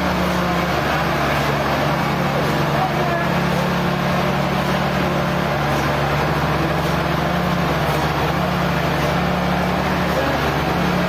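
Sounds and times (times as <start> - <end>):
sawmill machinery drone: 0.0 - 11.0.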